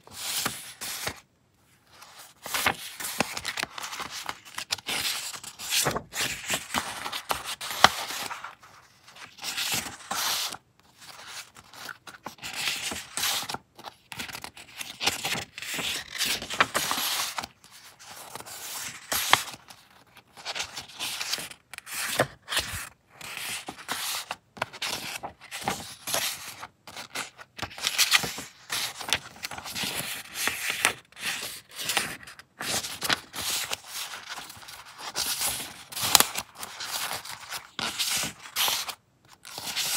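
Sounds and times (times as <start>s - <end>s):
paper rustling and shuffling: 0.1s - 1.2s, 1.8s - 39.9s.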